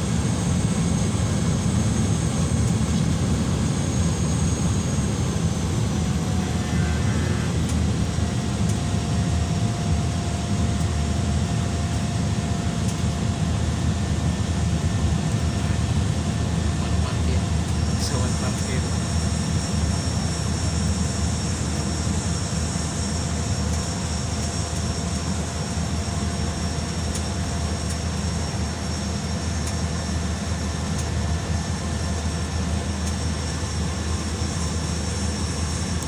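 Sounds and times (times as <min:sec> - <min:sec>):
propeller plane engine drone: 0:00.0 - 0:36.0.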